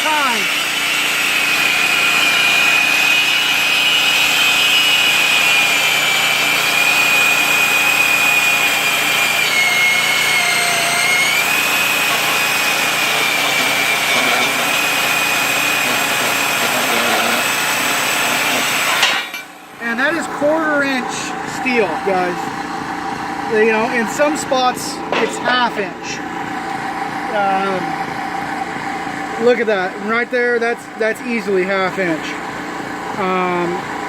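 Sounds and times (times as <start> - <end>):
band saw cutting steel whine: 0.0 - 34.0.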